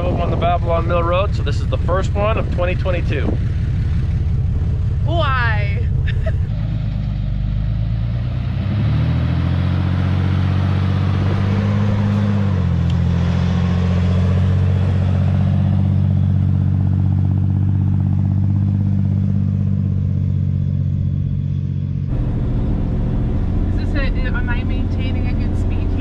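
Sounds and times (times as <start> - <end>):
vehicle engine under load: 0.0 - 26.0.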